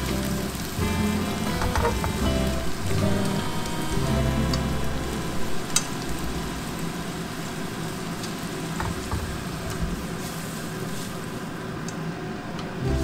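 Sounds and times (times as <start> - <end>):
vegetables sizzling in oil: 0.0 - 11.8.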